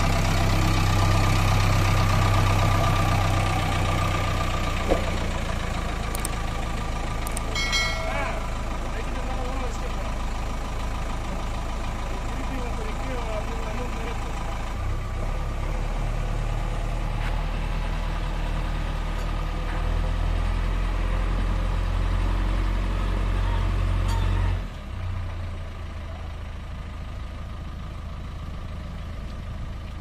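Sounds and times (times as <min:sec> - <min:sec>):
heavy diesel engine droning: 0:00.0 - 0:30.0.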